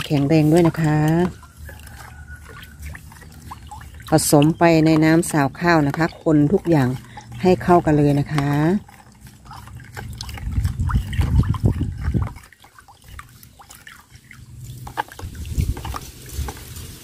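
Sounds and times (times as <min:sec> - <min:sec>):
liquid sloshing: 0:00.0 - 0:17.0.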